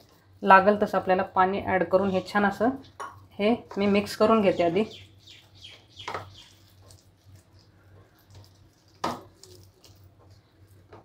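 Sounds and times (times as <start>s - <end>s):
hand kneading wet batter: 1.9s - 11.0s.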